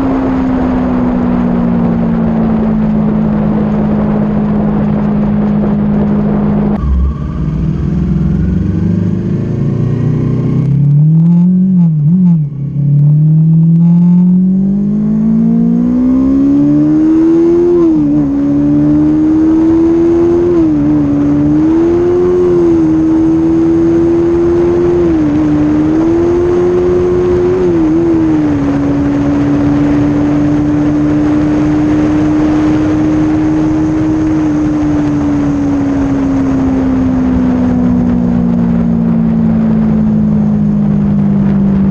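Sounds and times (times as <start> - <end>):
motorcycle engine accelerating: 0.0 - 41.9
wind noise on microphone: 0.0 - 41.9.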